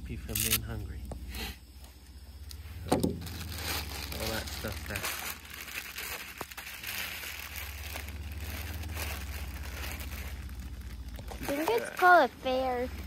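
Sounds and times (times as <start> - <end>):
oil crackling: 0.1 - 0.7, 2.4 - 13.0.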